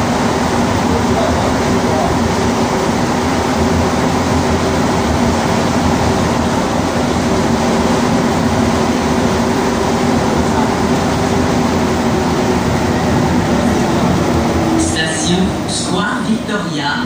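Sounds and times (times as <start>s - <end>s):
train rumbling in a tunnel: 0.0s - 17.0s.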